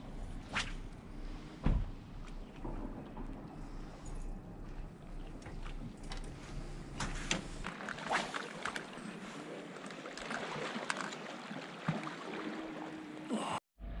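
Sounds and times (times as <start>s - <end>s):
water lapping against a pier: 0.0s - 13.4s.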